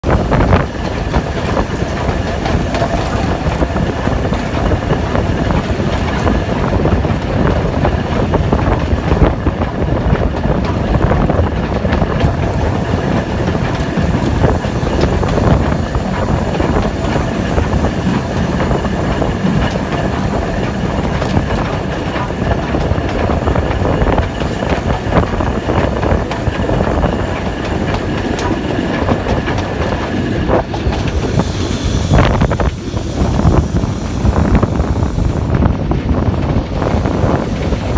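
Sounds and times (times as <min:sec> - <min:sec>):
steam locomotive wheels rumbling: 0:00.0 - 0:37.9
wheels clicking over rail joints: 0:00.0 - 0:37.9.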